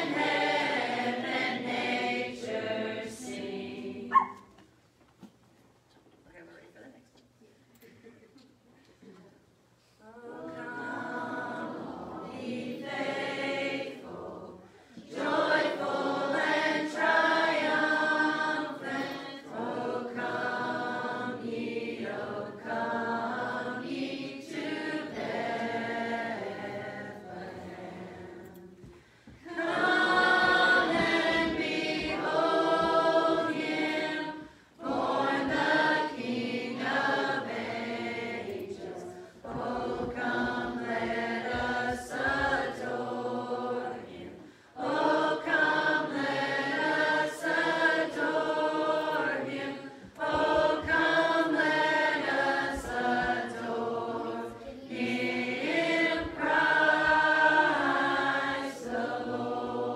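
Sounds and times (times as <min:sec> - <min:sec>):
congregation singing a hymn: 0:00.0 - 0:04.6, 0:10.0 - 0:59.9.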